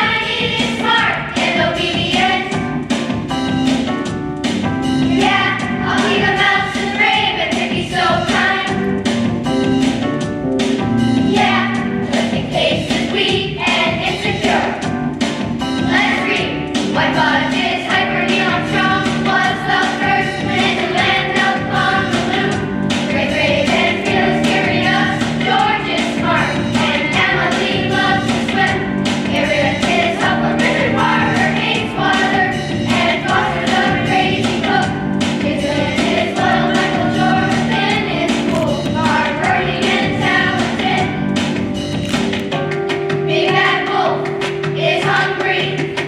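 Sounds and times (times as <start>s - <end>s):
group of voices singing: 0.0s - 2.6s, 5.1s - 8.9s, 11.3s - 14.9s, 15.8s - 41.3s, 43.3s - 46.0s
backing music with beat: 0.0s - 46.0s.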